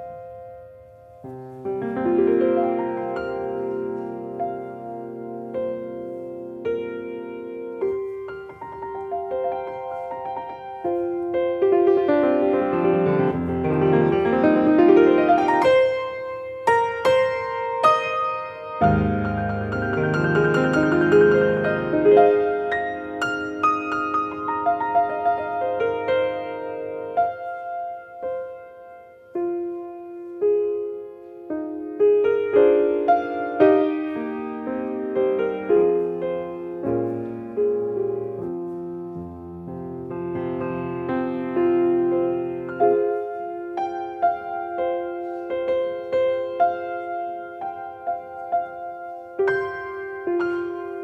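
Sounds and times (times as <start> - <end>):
solo piano playing: 0.0 - 51.0.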